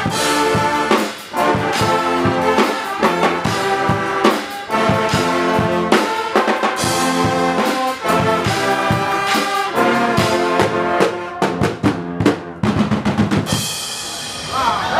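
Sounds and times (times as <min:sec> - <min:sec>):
brass band playing: 0:00.0 - 0:14.5.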